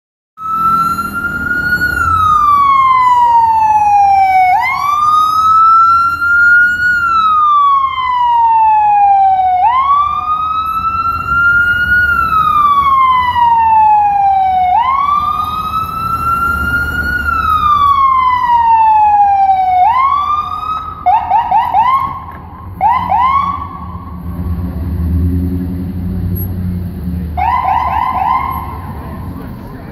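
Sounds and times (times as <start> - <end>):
siren rising chirps: 0.4 - 24.6, 27.3 - 29.2
ambulance siren wailing: 0.4 - 25.3, 27.2 - 29.9
street traffic rumble: 0.4 - 29.9.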